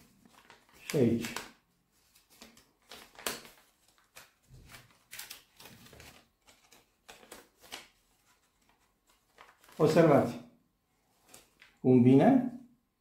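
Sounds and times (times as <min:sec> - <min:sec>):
paper rustling and crinkling: 0:00.0 - 0:10.1, 0:11.0 - 0:11.8.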